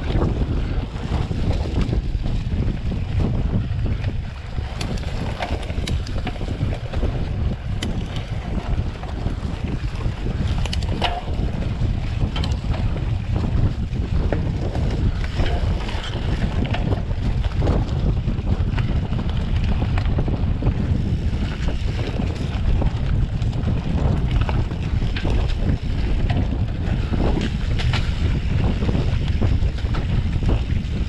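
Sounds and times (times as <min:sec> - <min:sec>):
bike rattling over bumps: 0:00.0 - 0:31.0
wind buffeting microphone: 0:00.0 - 0:31.0
tyres rumbling on dirt: 0:04.7 - 0:31.0.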